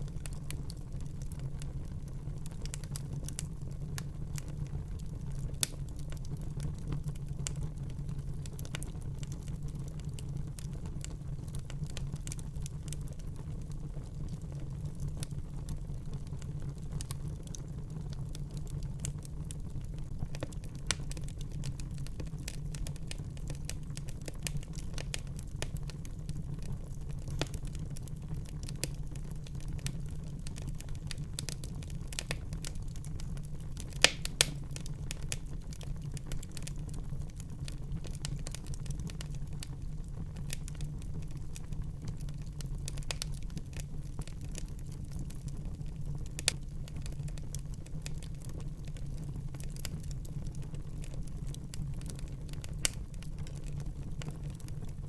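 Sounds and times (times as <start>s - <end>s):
fire crackles and pops: 0.0s - 55.0s
wood fire rumbling: 0.0s - 55.0s.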